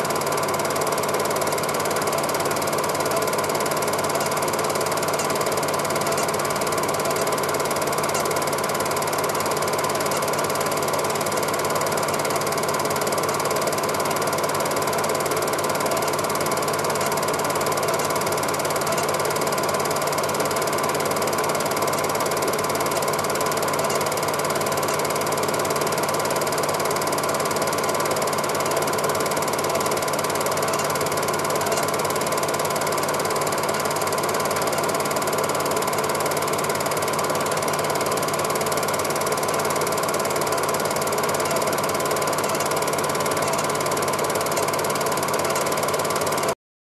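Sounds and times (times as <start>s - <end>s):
film projector whirring and clattering: 0.0s - 46.6s.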